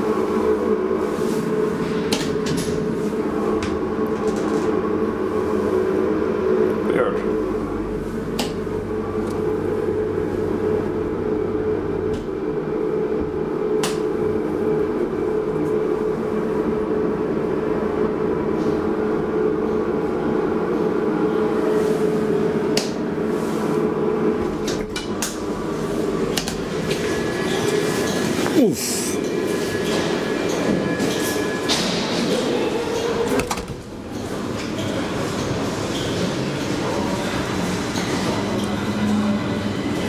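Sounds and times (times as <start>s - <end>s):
elevator machine hum with tone: 0.0s - 40.0s.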